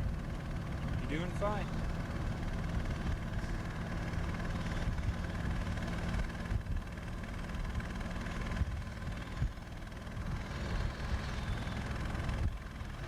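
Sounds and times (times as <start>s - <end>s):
heavy engine humming: 0.0s - 13.0s.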